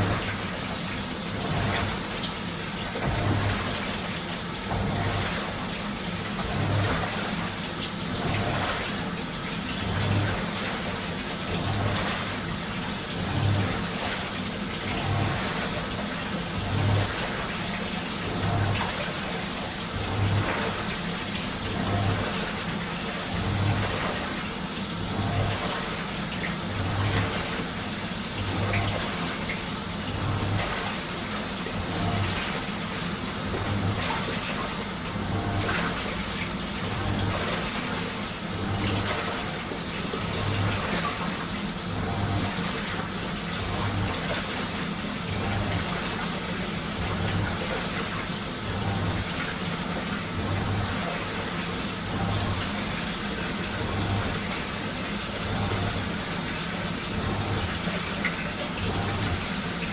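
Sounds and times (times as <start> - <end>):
washing machine sloshing water: 0.0 - 59.9.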